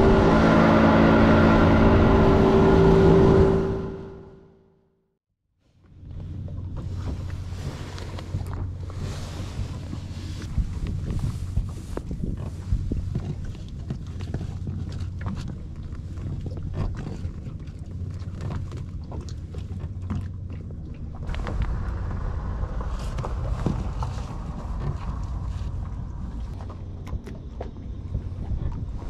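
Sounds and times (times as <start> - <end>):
outboard motor running: 0.0 - 4.2, 5.9 - 29.0.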